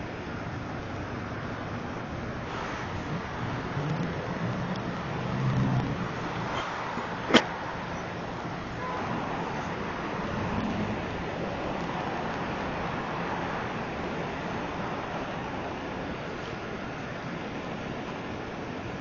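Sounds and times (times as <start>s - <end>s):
outdoor hiss and low rumble: 0.0s - 19.0s.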